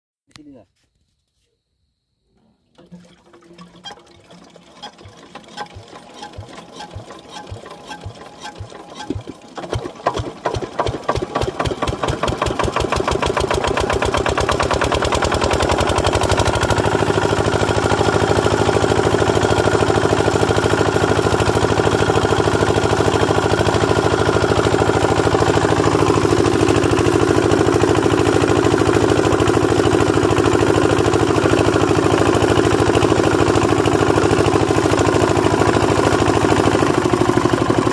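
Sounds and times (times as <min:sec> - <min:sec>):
diesel engine starting: 0:02.7 - 0:37.9.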